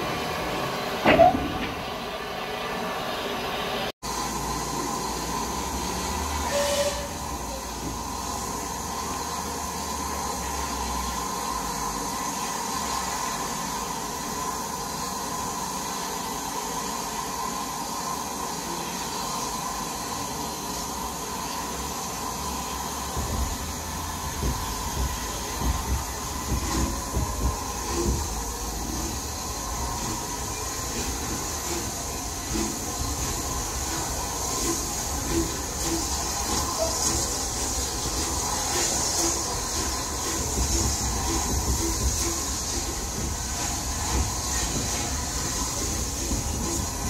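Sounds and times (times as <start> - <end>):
train hiss: 0.0 - 47.0.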